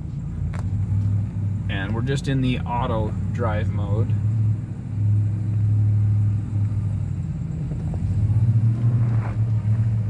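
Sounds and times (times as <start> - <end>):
truck engine drone under load: 0.0 - 10.0.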